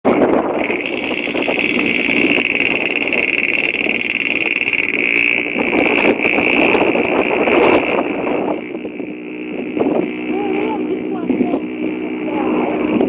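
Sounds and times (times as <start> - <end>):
constant high whine: 0.0 - 13.0
vehicle engine and road noise: 0.6 - 13.0.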